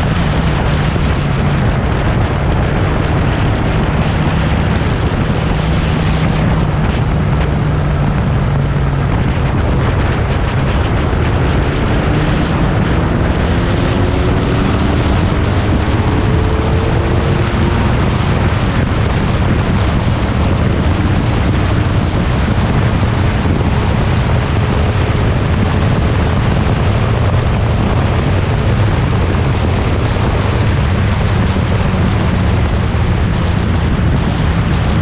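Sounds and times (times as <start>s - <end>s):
racing car engine rumbling: 0.0s - 35.0s.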